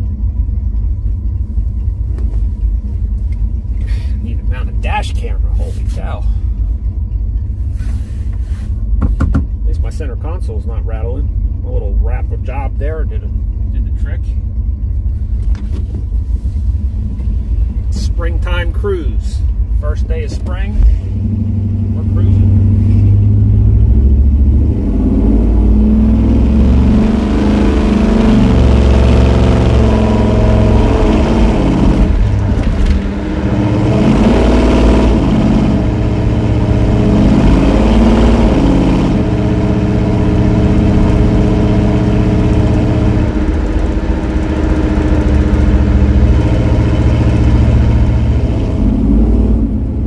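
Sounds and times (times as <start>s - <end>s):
car engine revving and cruising: 0.0s - 50.0s.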